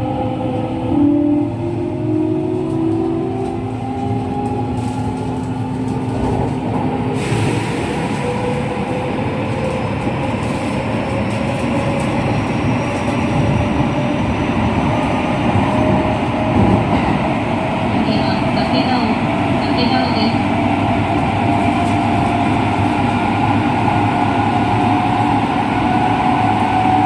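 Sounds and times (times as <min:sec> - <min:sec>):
train wheel and rail rumble: 0:00.0 - 0:27.0.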